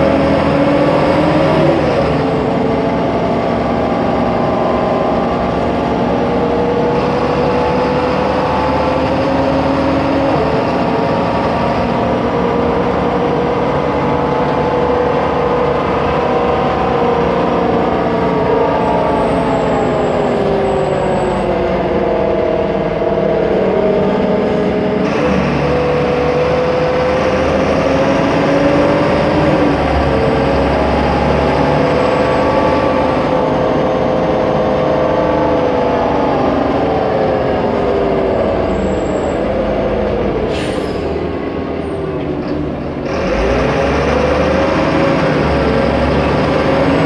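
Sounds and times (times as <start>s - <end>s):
bus engine and drivetrain whine: 0.0s - 47.0s.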